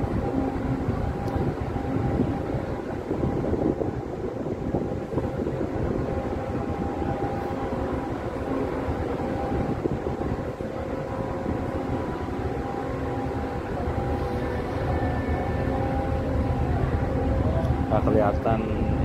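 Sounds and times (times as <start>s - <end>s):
large engines rumbling: 0.0s - 19.0s.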